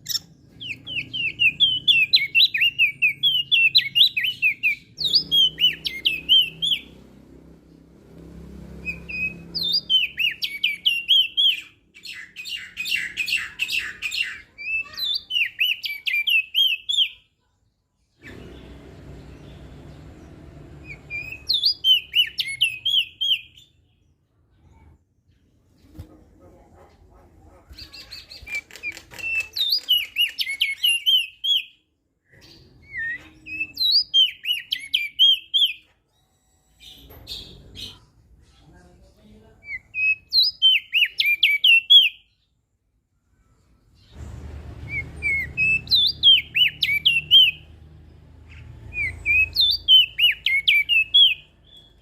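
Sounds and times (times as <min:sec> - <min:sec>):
songbird twittering song: 0:00.0 - 0:38.8, 0:39.6 - 0:52.0.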